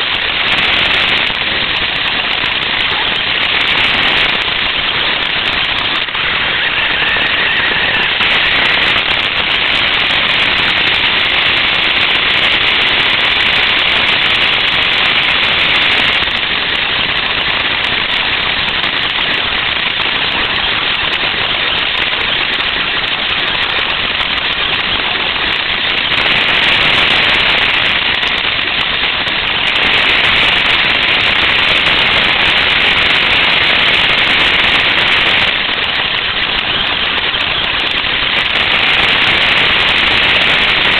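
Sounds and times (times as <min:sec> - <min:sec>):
rc car rattling over rough ground: 0:00.0 - 0:40.9.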